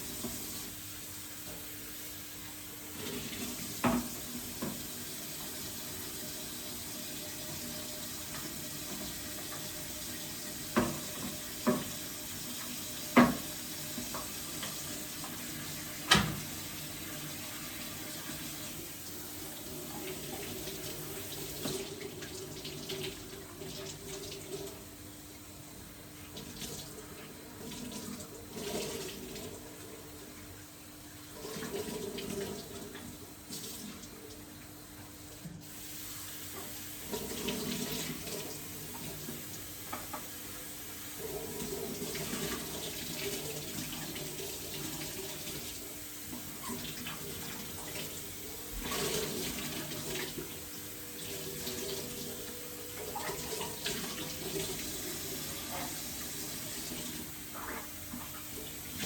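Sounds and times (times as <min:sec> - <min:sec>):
tap water running into sink: 0:00.0 - 0:25.5, 0:26.2 - 0:30.5, 0:31.3 - 0:34.8, 0:35.4 - 0:59.0.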